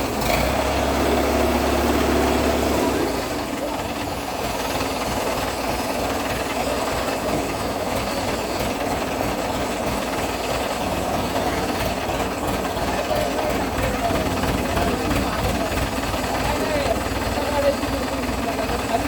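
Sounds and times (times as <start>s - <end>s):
tray washing machine running: 0.0s - 19.0s.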